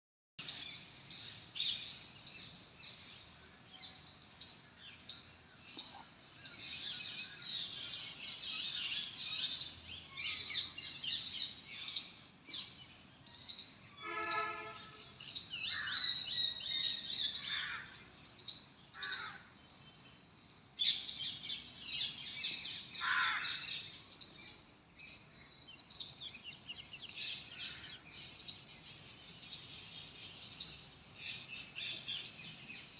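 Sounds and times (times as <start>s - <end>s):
small birds chorus: 0.4s - 32.9s.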